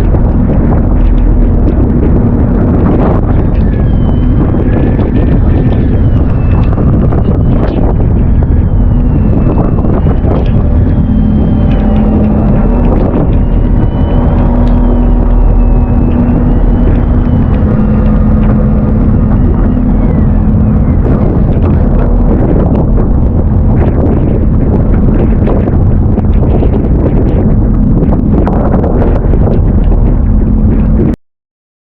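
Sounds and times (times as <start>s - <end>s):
faint wavering whine: 0.0s - 31.2s
steady motor hum: 0.0s - 31.2s
wind buffeting microphone: 0.0s - 31.2s.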